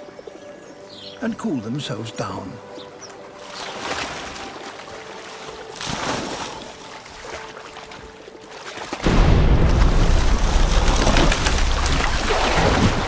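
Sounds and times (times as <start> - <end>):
shallow water trickling and splashing: 2.1 - 13.0.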